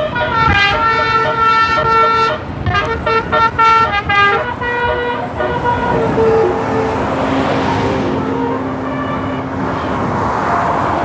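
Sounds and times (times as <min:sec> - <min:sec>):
bus engine and road noise: 0:00.0 - 0:11.0
musical air horn: 0:00.0 - 0:11.0.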